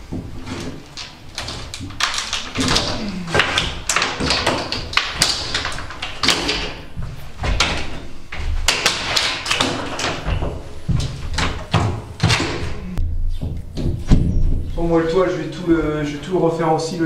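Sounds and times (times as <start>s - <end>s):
knocks and taps on panelled walls: 0.0s - 14.7s.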